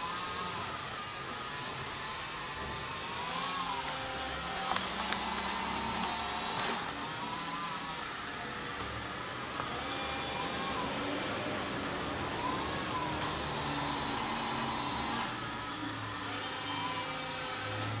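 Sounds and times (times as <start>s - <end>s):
small electric motors whirring: 0.0s - 18.0s.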